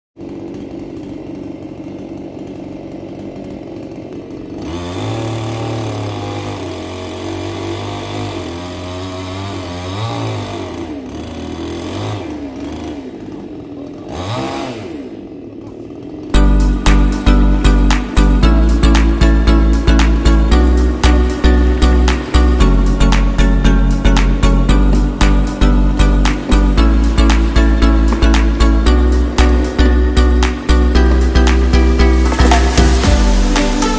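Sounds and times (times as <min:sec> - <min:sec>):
chainsaw engine running: 0:00.2 - 0:33.9.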